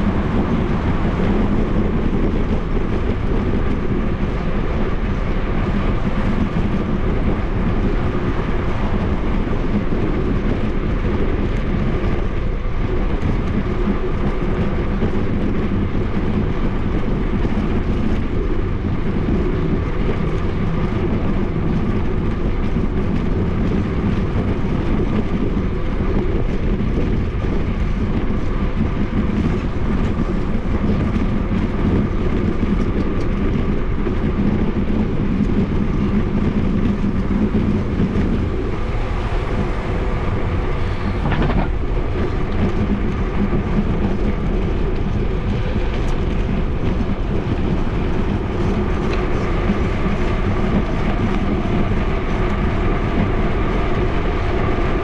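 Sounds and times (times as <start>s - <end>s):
bicycle tyre rumble: 0.0s - 55.0s
wind rush on microphone: 0.0s - 55.0s.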